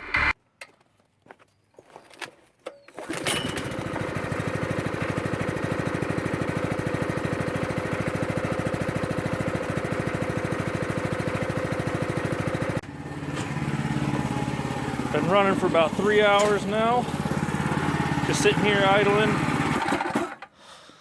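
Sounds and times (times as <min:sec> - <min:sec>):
small engine idling: 0:03.0 - 0:20.6.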